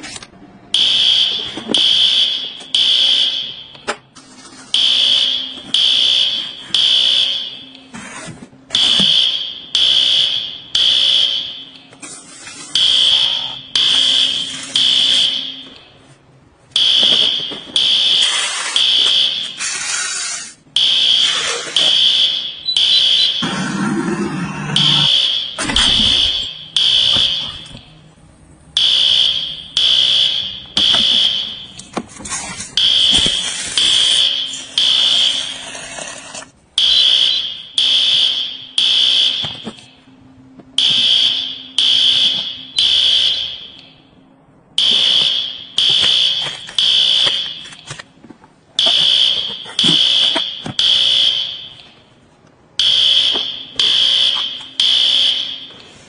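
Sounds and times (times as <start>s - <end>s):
smoke alarm beeping: 0.7s - 3.9s, 4.7s - 7.9s, 8.7s - 12.0s, 12.8s - 16.0s, 16.7s - 19.6s, 20.7s - 23.5s, 24.8s - 28.0s, 28.8s - 32.0s, 32.8s - 35.7s, 36.8s - 40.0s, 40.8s - 47.9s, 48.8s - 52.2s, 52.8s - 56.0s.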